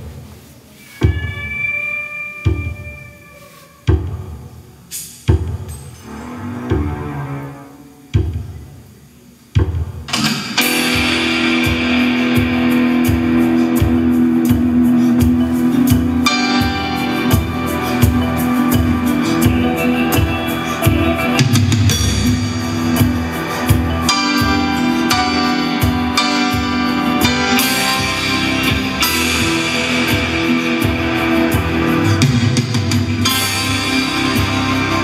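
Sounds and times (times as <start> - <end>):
rock song over speakers: 0.8 - 5.7, 10.0 - 35.0.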